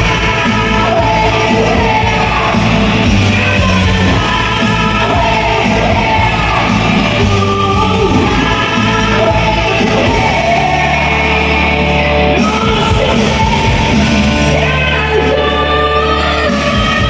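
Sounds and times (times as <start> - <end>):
rock backing track: 0.0 - 17.0
woman singing: 0.0 - 17.0.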